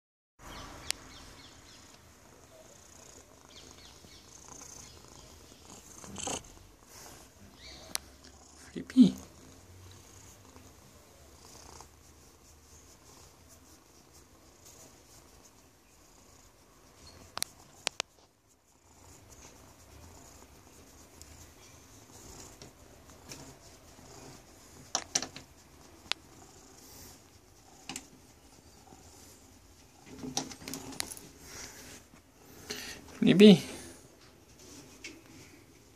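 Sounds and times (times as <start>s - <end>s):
rustle: 0.4s - 35.9s
cat purring: 1.6s - 35.9s
hand rubbing fur: 3.0s - 35.9s.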